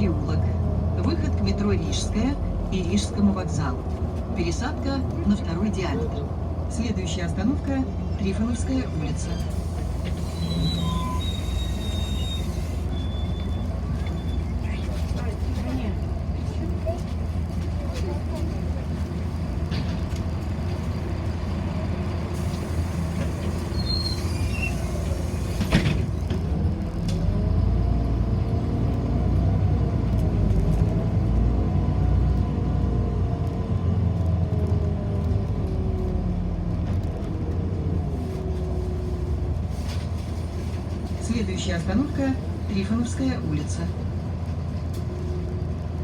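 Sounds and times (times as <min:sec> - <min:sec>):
bus drive whine: 0:00.0 - 0:46.0
bus engine rumble: 0:00.0 - 0:46.0.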